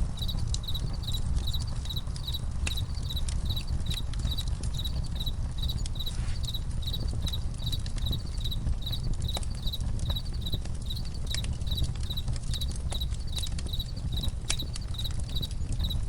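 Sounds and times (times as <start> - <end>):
campfire crackling and popping: 0.0 - 16.0
cricket chirping: 0.1 - 16.0.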